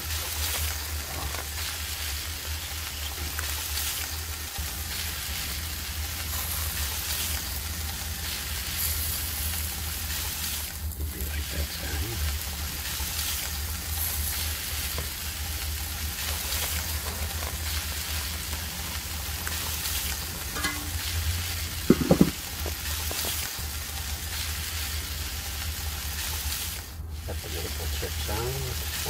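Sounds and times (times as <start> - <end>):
meat sizzling on a grill: 0.0 - 29.0.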